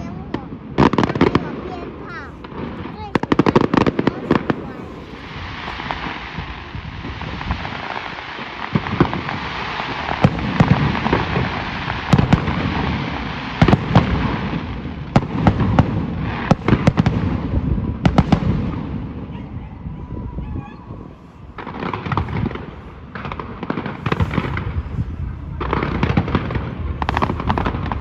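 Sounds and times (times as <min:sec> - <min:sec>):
fireworks hissing and crackling: 0:00.0 - 0:19.3, 0:20.9 - 0:28.0
fireworks bangs: 0:00.0 - 0:28.0.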